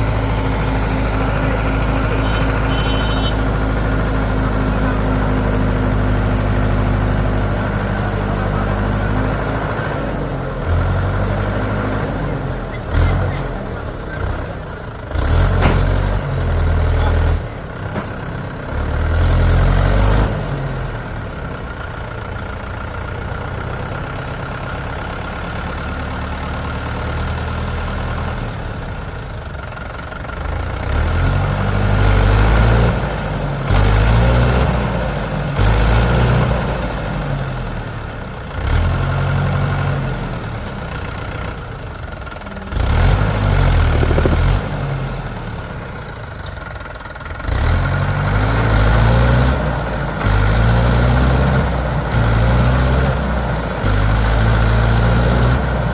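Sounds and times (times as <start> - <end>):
heavy diesel engine revving: 0.0 - 55.9.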